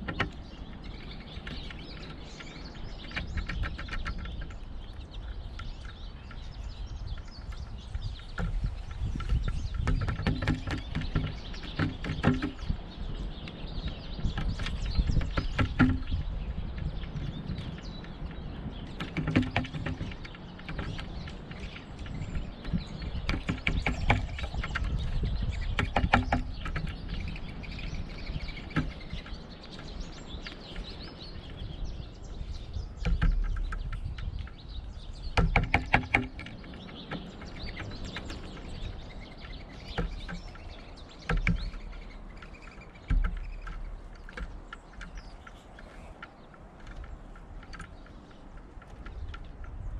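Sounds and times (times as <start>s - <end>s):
woodpecker pecking: 0.0s - 49.9s.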